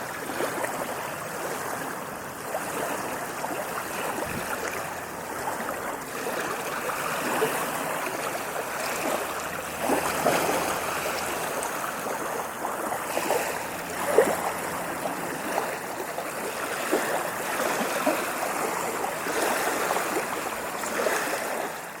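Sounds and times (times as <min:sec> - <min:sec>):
small ocean waves splashing: 0:00.0 - 0:22.0.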